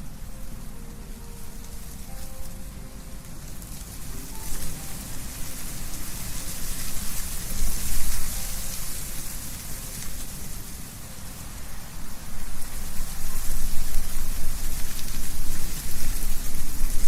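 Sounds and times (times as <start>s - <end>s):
wind rustling tree leaves: 0.0s - 17.0s.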